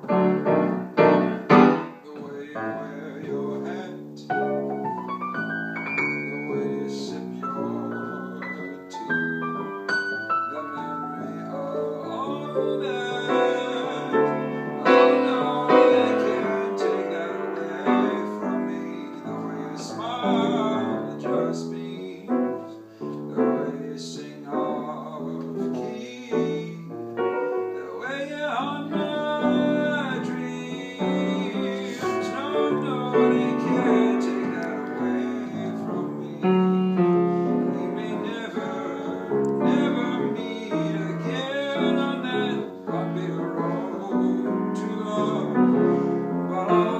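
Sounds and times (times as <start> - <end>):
person singing: 0.0 - 4.7, 6.2 - 26.9, 27.6 - 46.9
piano music: 0.0 - 46.9.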